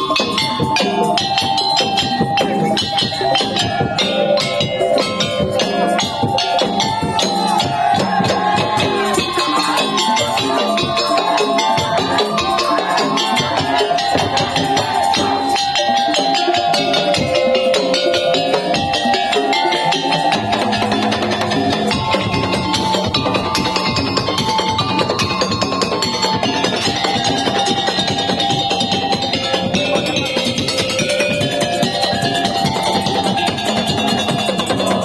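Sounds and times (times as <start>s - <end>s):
fast percussion ensemble: 0.0s - 35.0s
sustained pitched melody: 0.0s - 35.0s.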